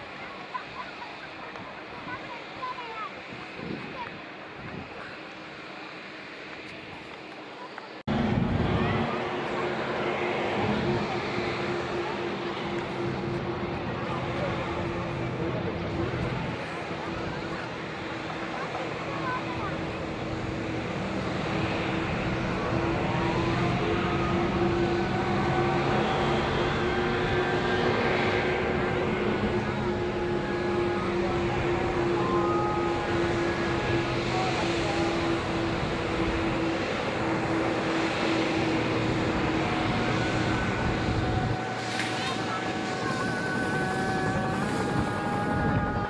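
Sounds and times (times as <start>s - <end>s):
jet engine whine and rumble: 0.0s - 46.0s.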